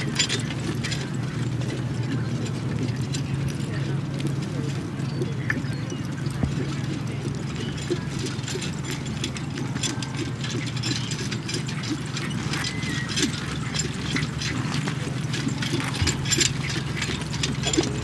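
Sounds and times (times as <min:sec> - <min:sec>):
carriage and harness rattling: 0:00.0 - 0:18.0
hoofbeats on grass: 0:00.0 - 0:18.0.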